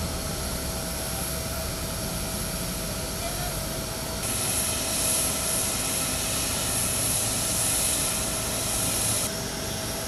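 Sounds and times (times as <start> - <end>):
jet engine whine and rush: 0.0 - 10.0.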